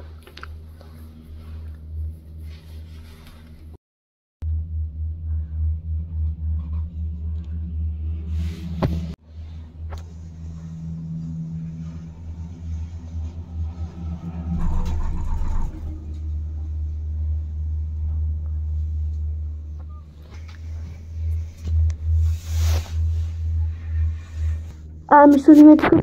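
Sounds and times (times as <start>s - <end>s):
gondola cabin rumble: 4.4s - 26.0s.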